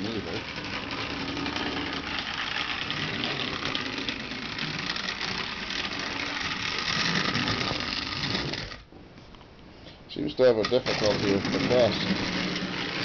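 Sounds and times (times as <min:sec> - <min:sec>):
toy train wheels rattling on rails: 0:00.0 - 0:08.8, 0:10.4 - 0:13.0
toy train motor whirring: 0:00.0 - 0:08.9, 0:10.5 - 0:13.0.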